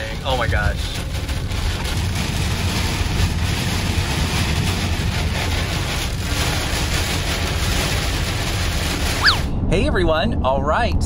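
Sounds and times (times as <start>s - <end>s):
heavy rain on car: 0.0s - 9.5s
tyre noise on wet road: 0.0s - 9.5s.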